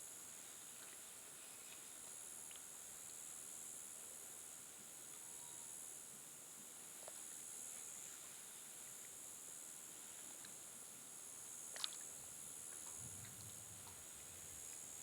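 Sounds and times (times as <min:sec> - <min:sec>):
faint high-pitched hiss: 0:00.0 - 0:15.0.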